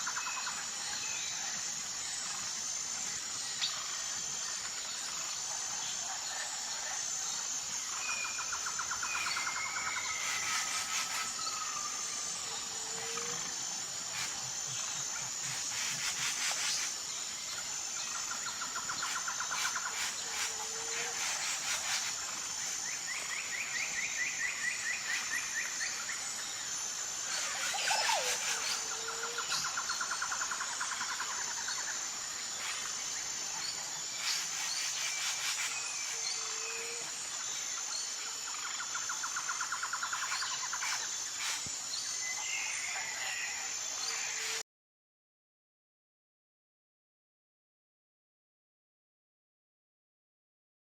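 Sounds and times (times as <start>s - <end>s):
insect chorus pulsing drone: 0.0s - 44.6s.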